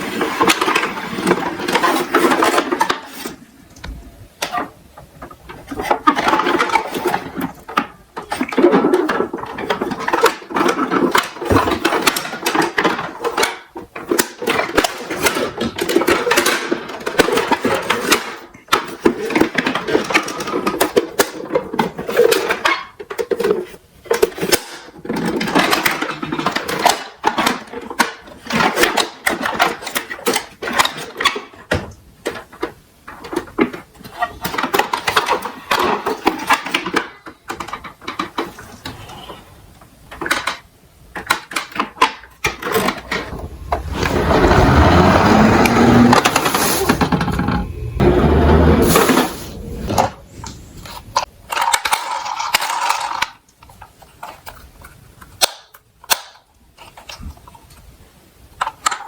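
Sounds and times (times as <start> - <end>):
plastic toy trucks rattling: 0.0 - 3.8, 4.4 - 59.0.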